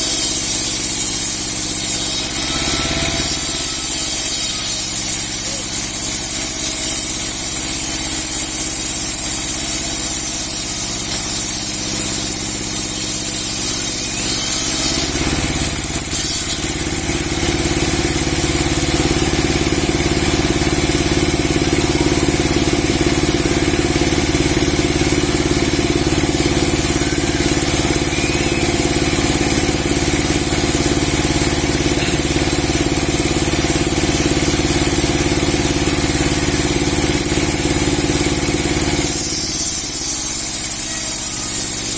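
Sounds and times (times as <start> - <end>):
sawmill blade running: 0.0 - 41.9.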